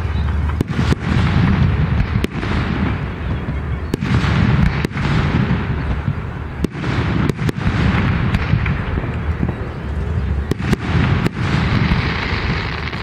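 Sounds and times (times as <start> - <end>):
fireworks sharp bangs: 0.0 - 13.0.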